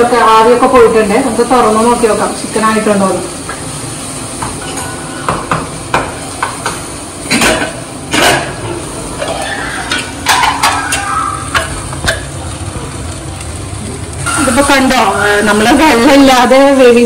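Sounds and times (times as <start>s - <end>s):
shallots sizzling in oil: 0.0s - 17.0s.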